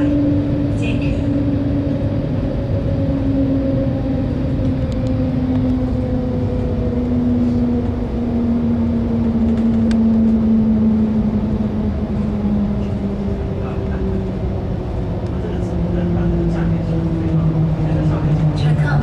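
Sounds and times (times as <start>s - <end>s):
train cabin rumble and hum: 0.0s - 19.0s.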